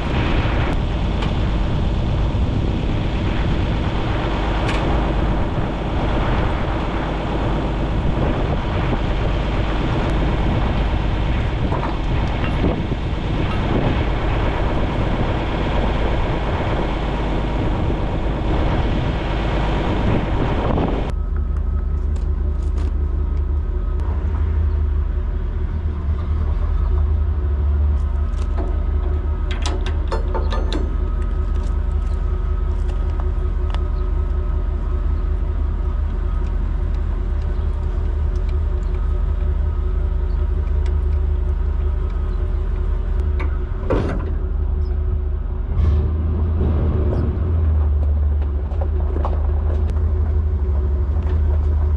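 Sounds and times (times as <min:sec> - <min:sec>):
farm machinery engine clattering: 0:00.0 - 0:51.9
low steady rumble: 0:00.0 - 0:51.9.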